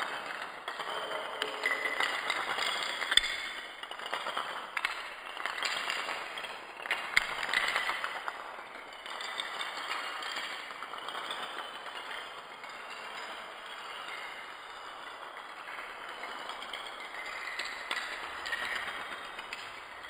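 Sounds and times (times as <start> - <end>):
dominoes clattering on stone floor: 0.0 - 20.0.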